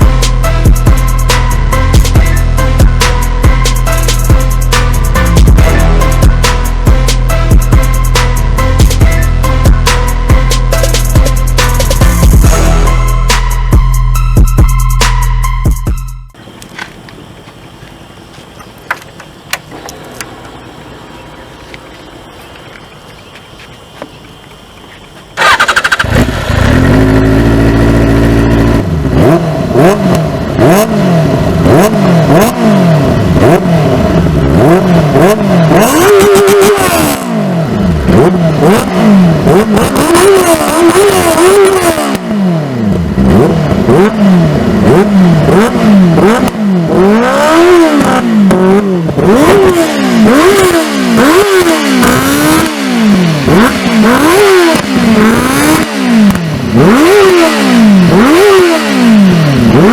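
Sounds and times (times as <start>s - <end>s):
motorcycle engine revving: 0.0s - 14.7s, 25.2s - 59.9s.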